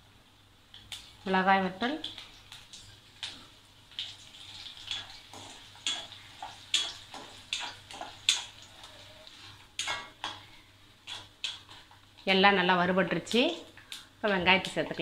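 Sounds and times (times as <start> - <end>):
oil sizzling in a pan: 0.0 - 15.0
sharp crackles of frying seeds: 0.3 - 15.0.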